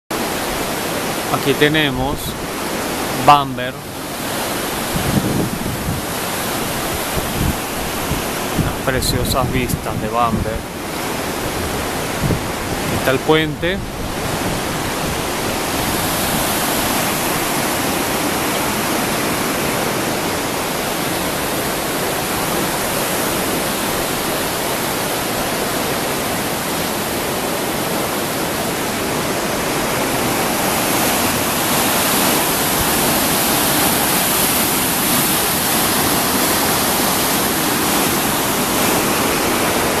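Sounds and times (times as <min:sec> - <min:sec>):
river water rushing: 0:00.1 - 0:40.0.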